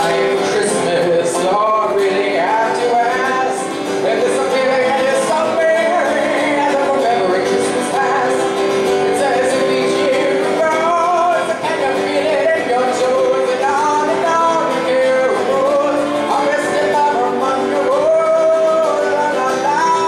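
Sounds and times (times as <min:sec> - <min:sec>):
live song with voices singing: 0:00.0 - 0:20.0.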